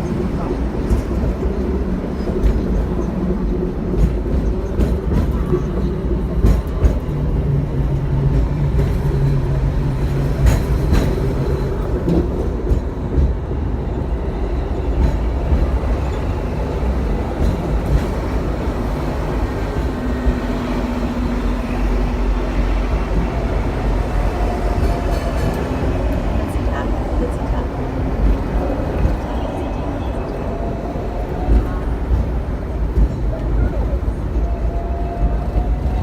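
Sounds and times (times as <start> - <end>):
tram rumbling and rattling: 0.0 - 36.0.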